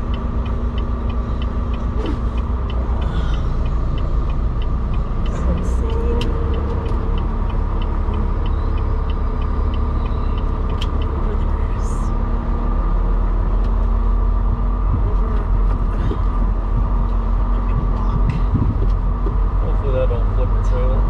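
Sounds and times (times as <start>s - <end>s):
truck diesel engine rumbling: 0.0s - 21.0s
turn signal ticking: 0.0s - 21.0s.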